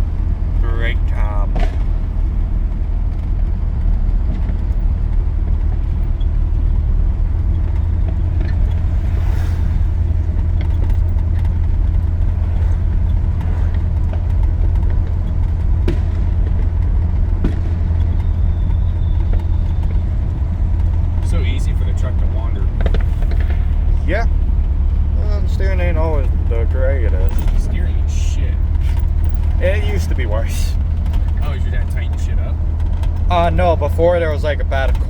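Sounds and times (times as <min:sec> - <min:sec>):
pickup engine drone: 0:00.0 - 0:35.0.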